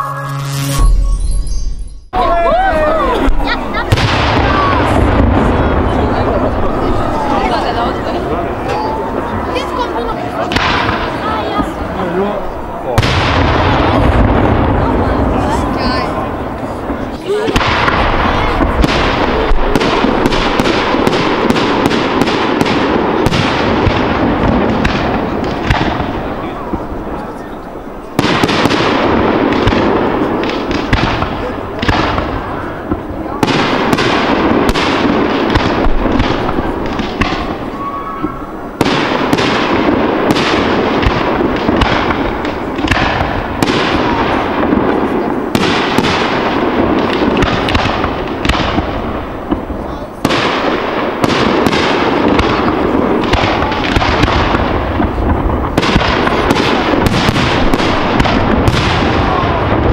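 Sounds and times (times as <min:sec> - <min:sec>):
fireworks bangs: 0:00.0 - 0:59.9
fireworks crackle and rumble: 0:02.1 - 0:59.9.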